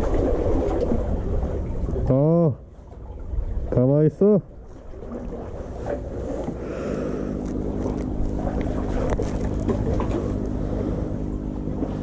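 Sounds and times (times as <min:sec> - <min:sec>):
boat engine droning: 0:00.0 - 0:12.0
low wind rumble: 0:00.0 - 0:12.0.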